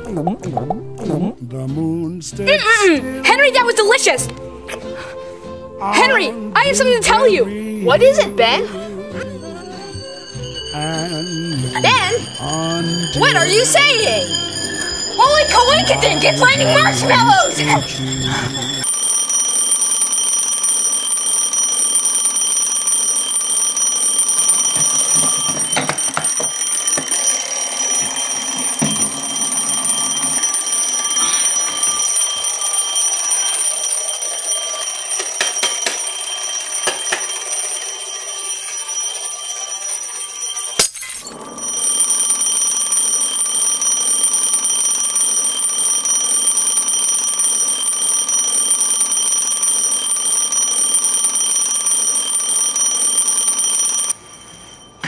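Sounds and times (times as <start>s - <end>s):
alarm clock ringing: 2.5s - 4.4s, 5.9s - 55.0s.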